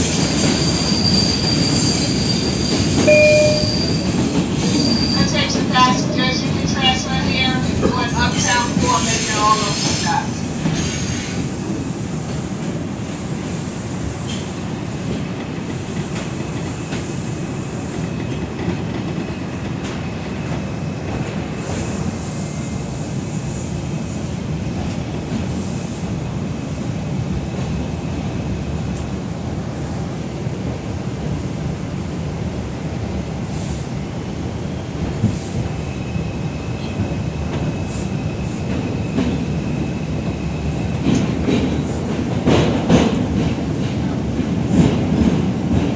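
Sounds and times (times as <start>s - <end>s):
subway wheels rumbling on rails: 0.0s - 45.9s.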